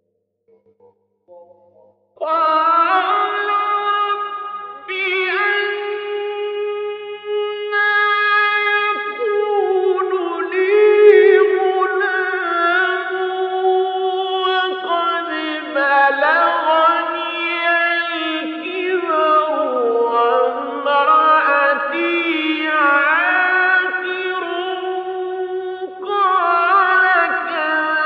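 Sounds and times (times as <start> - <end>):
man chanting melodic recitation: 0.5 - 28.0.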